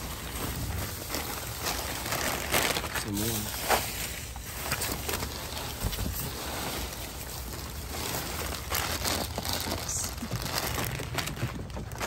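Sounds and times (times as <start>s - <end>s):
plastic bags rustling and crinkling: 0.0s - 12.0s.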